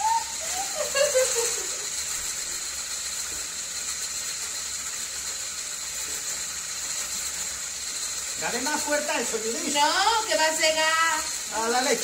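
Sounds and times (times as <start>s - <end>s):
electric stick blender running: 0.0s - 12.0s.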